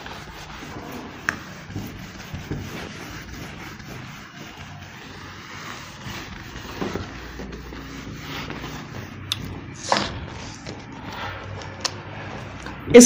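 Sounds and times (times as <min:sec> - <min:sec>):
duster wiping whiteboard: 0:00.0 - 0:13.0.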